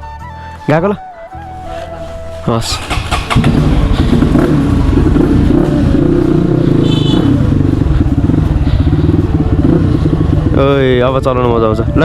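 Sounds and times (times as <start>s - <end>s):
motorcycle engine throbbing: 1.2s - 12.0s.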